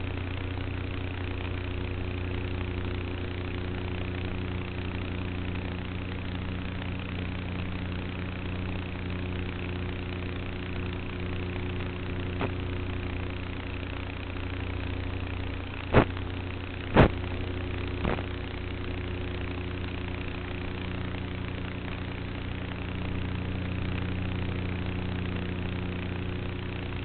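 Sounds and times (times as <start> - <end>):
electric motor and propeller humming: 0.0 - 27.0.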